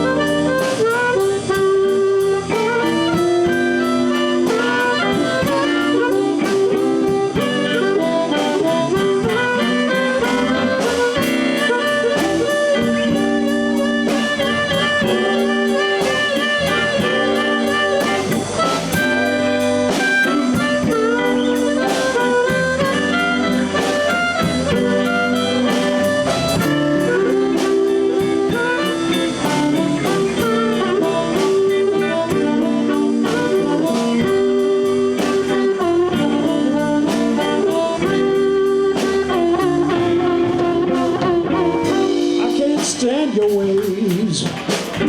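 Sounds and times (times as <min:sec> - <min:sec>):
sliding bending lead notes: 0:00.0 - 0:44.1
live blues band playing: 0:00.0 - 0:45.0.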